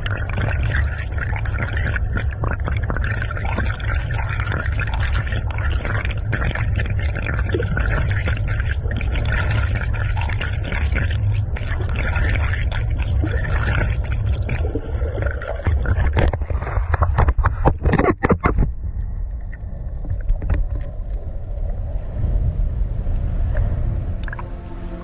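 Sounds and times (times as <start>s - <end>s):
sharp clicks underwater: 0.0s - 21.8s, 23.5s - 24.5s
underwater rumble of water: 0.0s - 25.0s.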